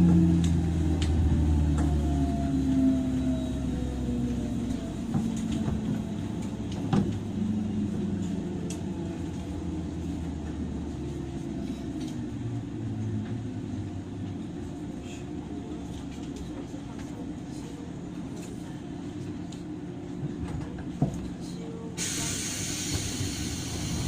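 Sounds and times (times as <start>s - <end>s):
train wheels and motor rumble: 0.0s - 24.0s.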